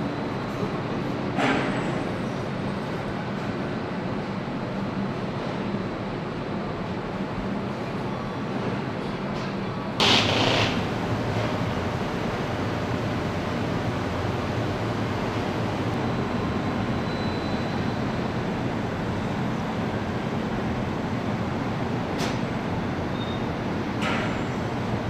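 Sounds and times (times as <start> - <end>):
factory machinery hum: 0.0 - 25.0.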